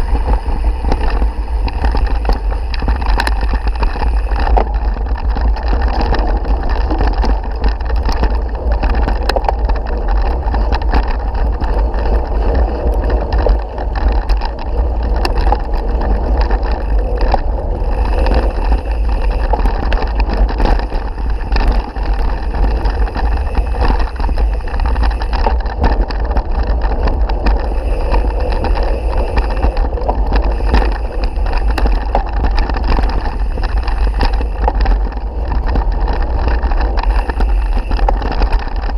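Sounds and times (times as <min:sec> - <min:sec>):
bike rattling and knocking: 0:00.0 - 0:38.9
wind buffeting microphone: 0:00.0 - 0:38.9.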